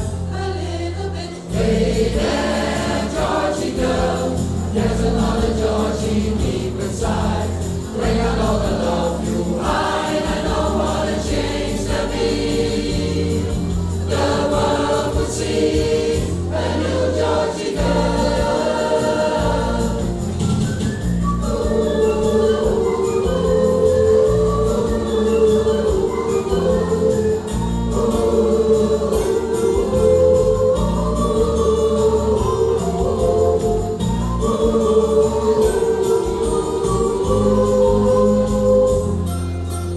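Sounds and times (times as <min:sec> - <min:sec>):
group of voices singing: 0:00.0 - 0:39.9
steady bass accompaniment: 0:00.0 - 0:39.9.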